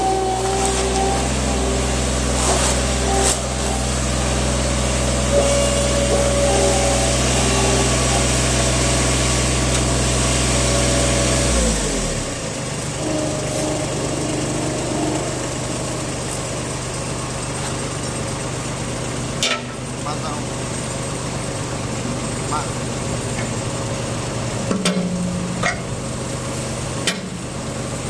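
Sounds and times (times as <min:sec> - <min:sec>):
loader engine running: 0:00.0 - 0:28.0.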